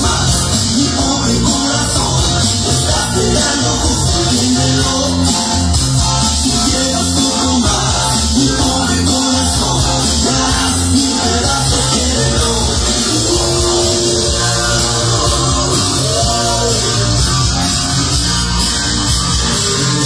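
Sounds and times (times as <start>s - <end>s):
loud dance music: 0.0s - 20.0s.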